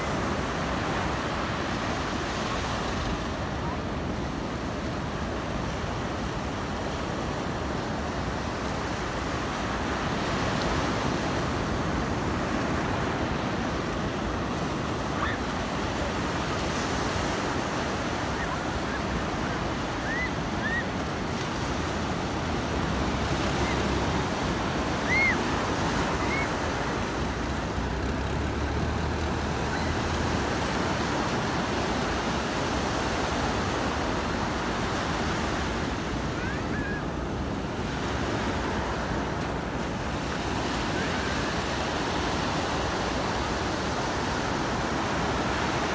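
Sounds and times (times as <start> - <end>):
waves breaking on a beach: 0.0 - 45.9.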